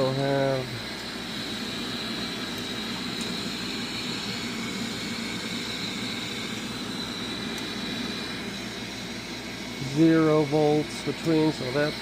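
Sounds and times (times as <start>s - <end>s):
faint high whine: 0.0s - 12.0s
furnace motor running: 0.0s - 12.0s.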